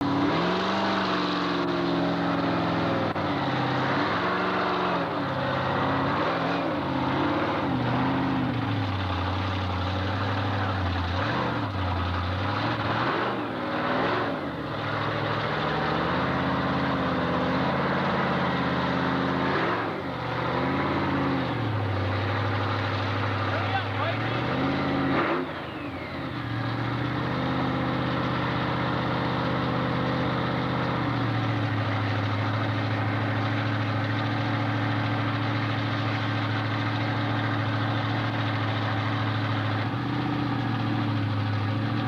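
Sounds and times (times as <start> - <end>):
monster truck engine revving: 0.0 - 42.0.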